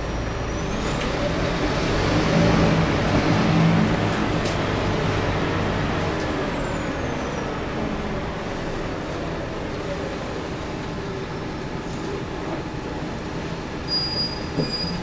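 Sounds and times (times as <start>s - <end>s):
bus engine pulling under load: 0.0s - 15.0s.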